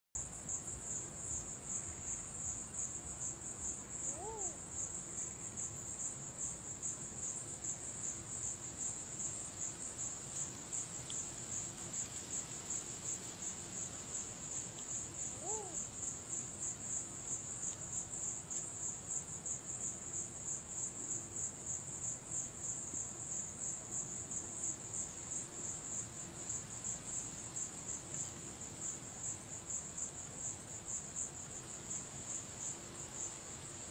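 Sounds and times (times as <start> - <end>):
night insects chirring: 0.2 - 33.9.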